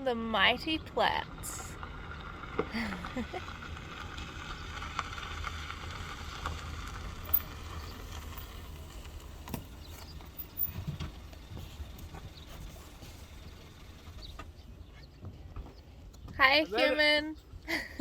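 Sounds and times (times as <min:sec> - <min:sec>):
car engine and road noise: 0:00.0 - 0:17.7.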